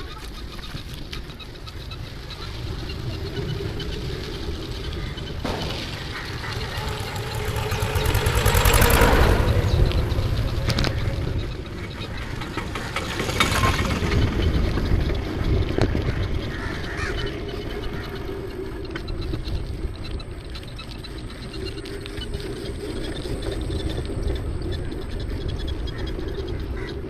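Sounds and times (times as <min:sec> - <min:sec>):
road and vehicle noise: 0:00.0 - 0:27.0
wind on microphone: 0:00.0 - 0:27.0.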